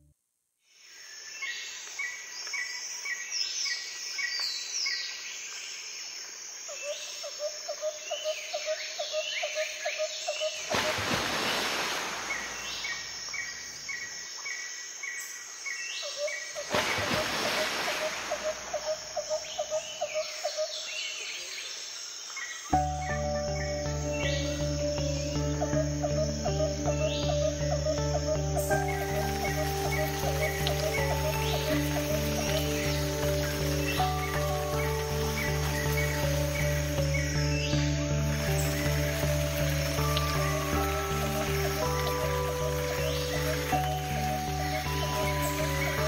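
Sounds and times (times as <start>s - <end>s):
high insect drone: 5.5s - 20.9s, 21.8s - 46.0s
birds chirping and trilling: 7.8s - 46.0s.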